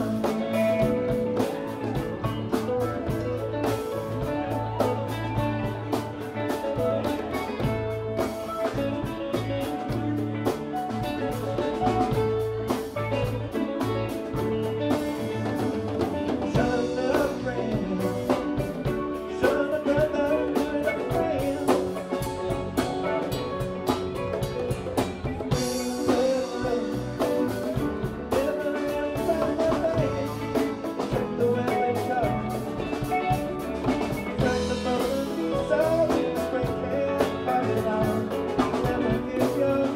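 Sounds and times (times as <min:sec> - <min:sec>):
congas: 0:00.0 - 0:39.9
drum kit: 0:00.0 - 0:39.9
electric guitars: 0:00.0 - 0:39.9.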